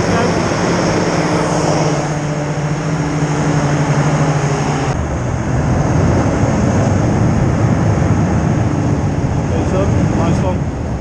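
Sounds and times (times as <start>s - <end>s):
hovercraft engine and fan drone: 0.0s - 11.0s.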